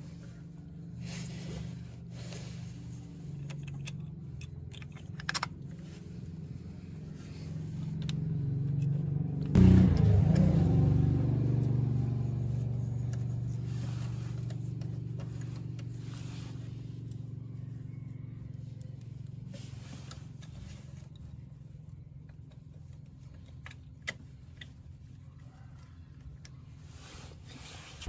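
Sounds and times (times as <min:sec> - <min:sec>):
car engine running: 0:00.0 - 0:25.3.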